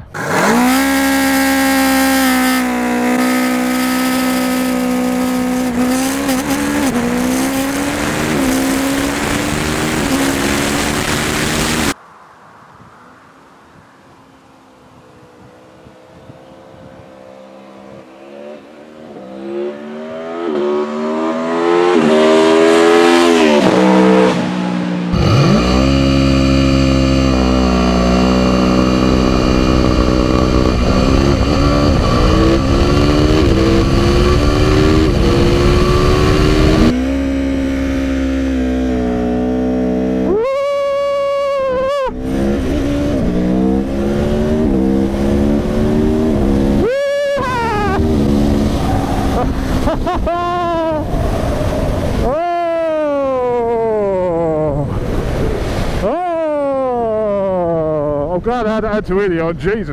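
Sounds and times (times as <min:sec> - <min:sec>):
motorcycle engine accelerating: 0:00.0 - 0:12.0, 0:14.9 - 0:58.2
sharp engine rev: 0:00.0 - 0:12.0, 0:17.3 - 0:54.0.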